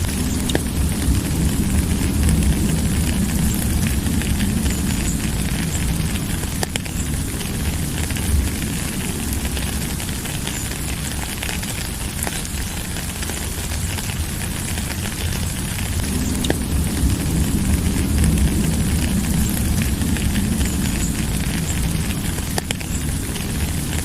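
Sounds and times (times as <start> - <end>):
deep low rumble: 0.0 - 24.0
steady rain hiss: 0.0 - 24.0.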